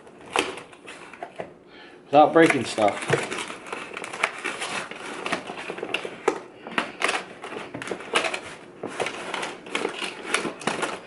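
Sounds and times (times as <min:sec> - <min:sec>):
cardboard and packaging rustling: 0:00.0 - 0:01.6, 0:02.2 - 0:11.0.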